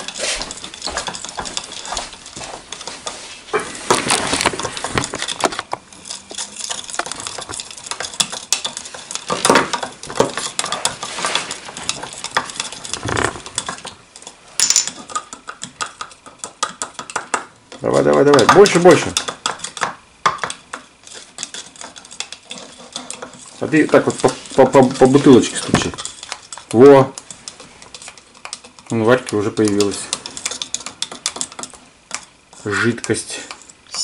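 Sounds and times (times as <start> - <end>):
wooden sticks scraping plastic cups: 0.0 - 34.0.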